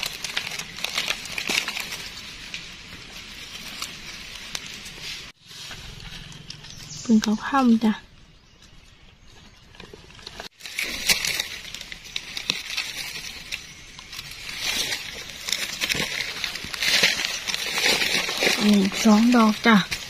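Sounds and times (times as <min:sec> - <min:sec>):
dry leaves rustling: 0:00.0 - 0:20.0.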